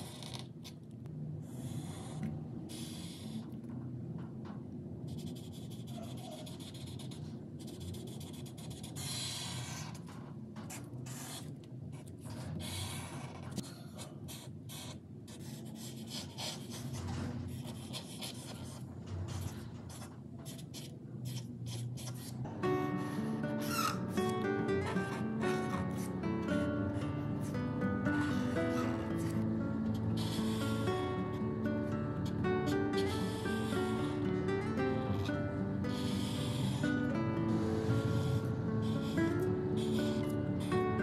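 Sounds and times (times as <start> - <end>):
marker scratching on paper: 0.0 - 0.8, 1.5 - 3.5, 5.1 - 41.0.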